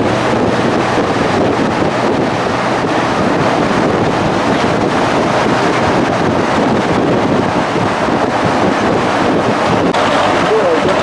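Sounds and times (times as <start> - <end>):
car road and engine noise: 0.0 - 11.0
wind rushing over microphone: 0.0 - 11.0.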